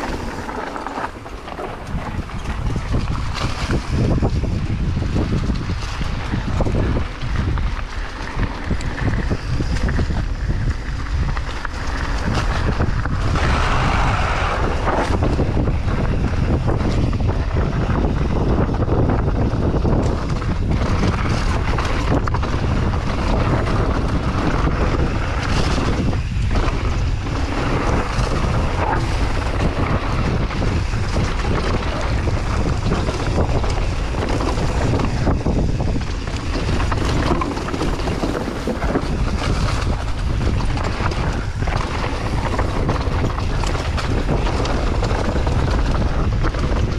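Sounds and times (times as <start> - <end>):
bike clicks and rattles: 0.0 - 46.9
tyres rumbling on dirt: 0.0 - 46.9
wind buffeting microphone: 0.0 - 46.9.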